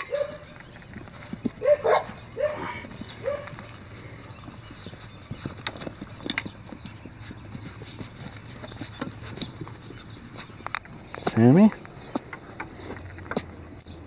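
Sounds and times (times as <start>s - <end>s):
puppy paws clicking on pavement: 0.0s - 14.0s.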